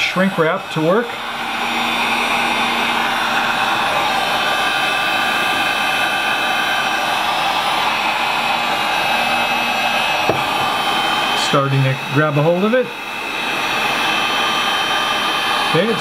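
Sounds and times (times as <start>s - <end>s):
heat gun blowing with fan whine: 0.0s - 16.0s.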